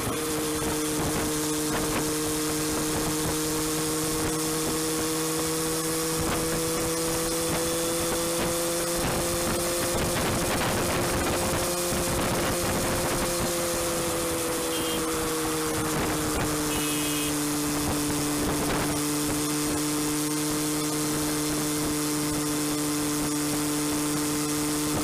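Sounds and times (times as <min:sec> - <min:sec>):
motorcycle engine cruising: 0:00.0 - 0:25.0
wind and road noise: 0:00.0 - 0:25.0.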